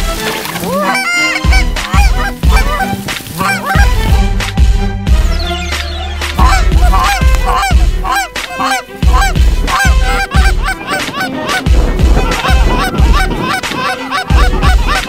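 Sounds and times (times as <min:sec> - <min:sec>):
geese honking: 0:00.0 - 0:04.4, 0:05.1 - 0:15.0
heavy low thumps: 0:01.3 - 0:05.6, 0:06.3 - 0:15.0.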